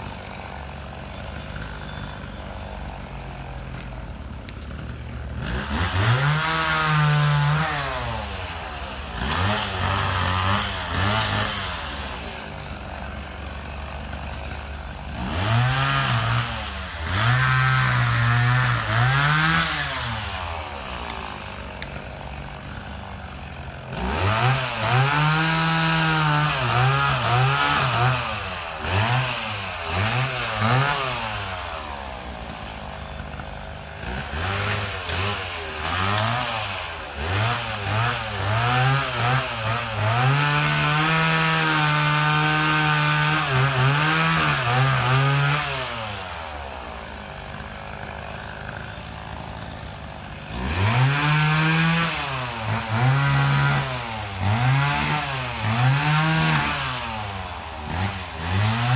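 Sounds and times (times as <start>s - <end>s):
chainsaw revving: 0.0s - 58.9s.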